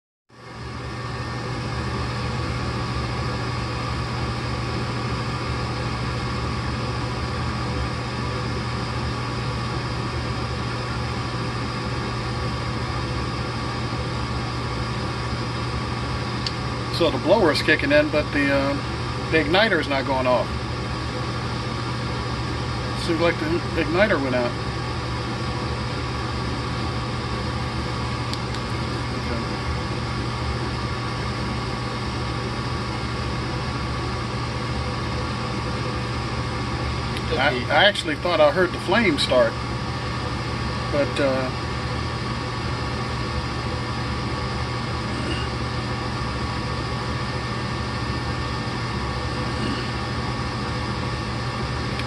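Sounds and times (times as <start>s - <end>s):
furnace blower humming: 0.3s - 52.0s.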